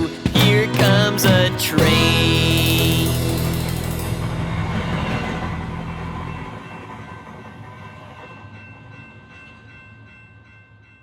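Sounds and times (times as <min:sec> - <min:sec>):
train rumbling on tracks: 0:00.0 - 0:10.2
rhythmic rail clicks: 0:00.0 - 0:11.0.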